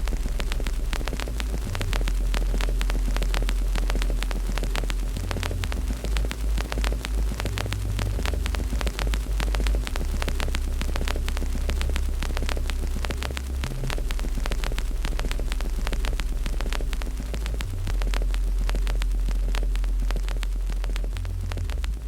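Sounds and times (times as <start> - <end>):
deep low drone: 0.0 - 22.0
wood fire crackling and popping: 0.0 - 22.0.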